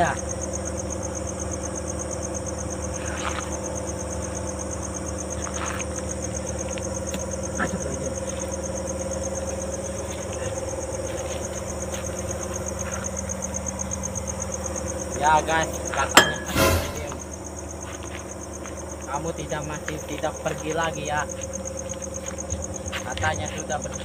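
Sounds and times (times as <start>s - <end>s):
night insects trilling: 0.0s - 24.0s
steady low hum: 0.0s - 24.0s.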